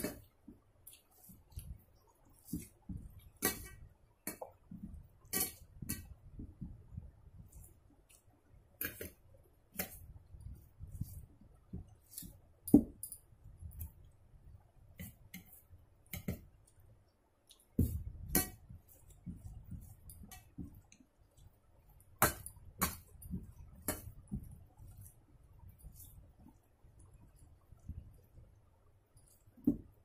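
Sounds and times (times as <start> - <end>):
fingers mixing rice: 0.0 - 28.3.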